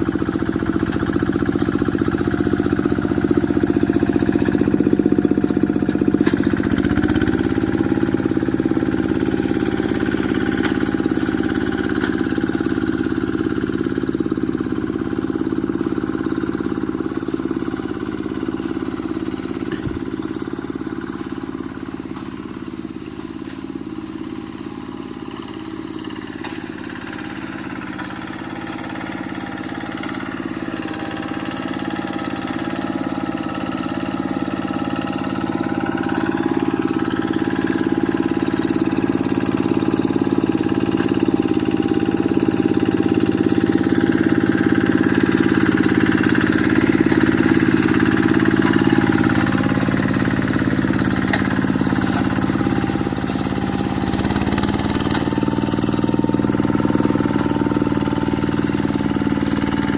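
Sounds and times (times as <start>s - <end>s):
hand tractor diesel engine running: 0.0s - 59.9s.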